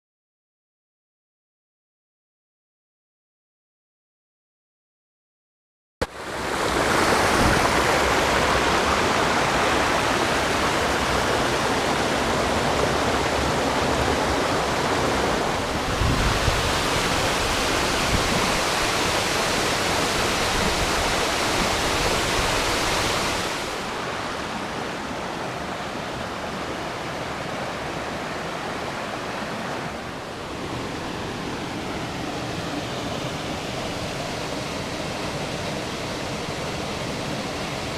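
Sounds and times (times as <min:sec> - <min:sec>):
waterfall rushing: 0:06.1 - 0:37.9.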